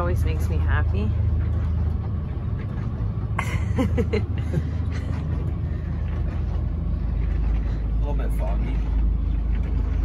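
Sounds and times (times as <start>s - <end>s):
boat engine drone: 0.0s - 10.0s.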